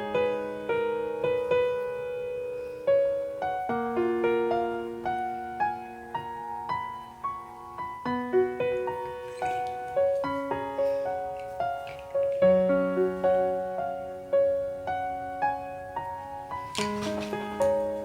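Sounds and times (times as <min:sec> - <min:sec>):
gentle solo piano piece: 0:00.0 - 0:18.0.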